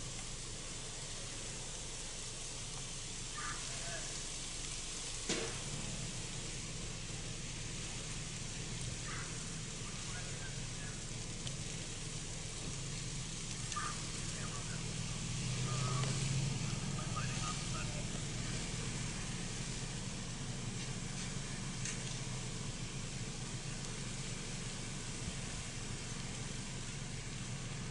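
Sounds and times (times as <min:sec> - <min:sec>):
fire hissing and crackling: 0:00.0 - 0:27.9.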